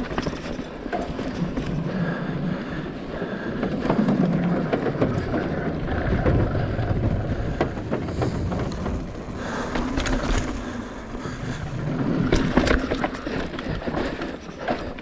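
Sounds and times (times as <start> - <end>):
bike chain and frame rattling: 0.0 - 2.3, 3.4 - 15.0
bike tyres rolling over dirt: 0.0 - 15.0.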